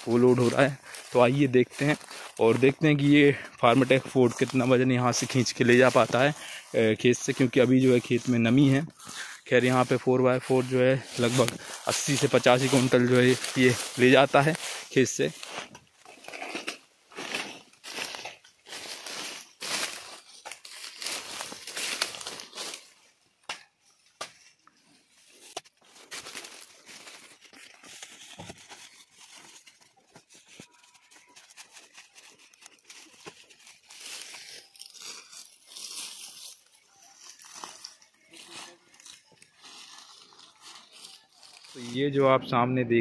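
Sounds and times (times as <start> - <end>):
dry leaves crunching: 0.0 - 23.2, 25.1 - 42.1.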